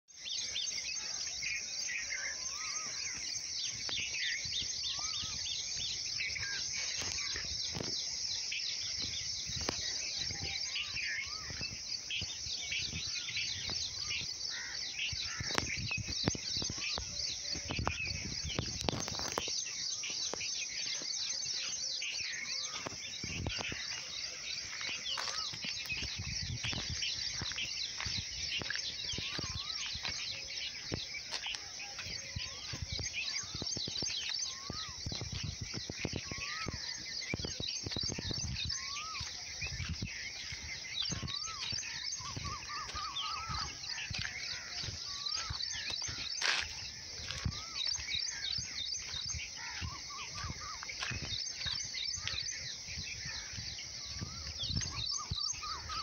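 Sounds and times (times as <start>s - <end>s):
birds chirping and whistling: 0.1s - 56.0s.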